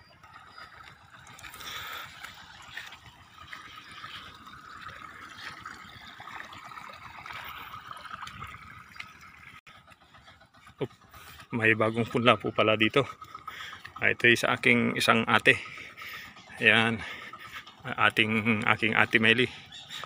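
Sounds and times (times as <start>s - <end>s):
water trickling into paddy: 0.0s - 20.0s.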